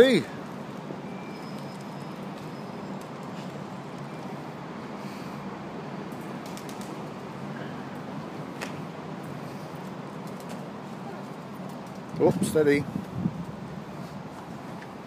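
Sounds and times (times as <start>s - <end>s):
low hum of traffic: 0.0s - 15.0s.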